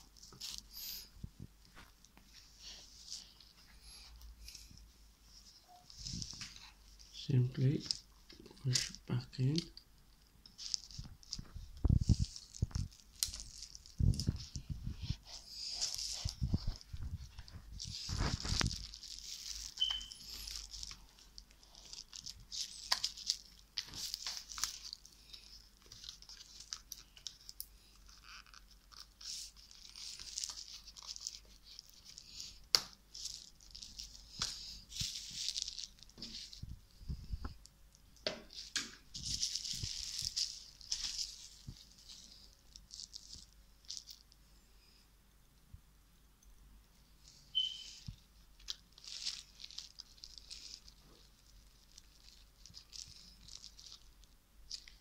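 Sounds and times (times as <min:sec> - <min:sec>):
bubble wrap crinkling: 0:00.0 - 0:44.4, 0:47.2 - 0:55.0.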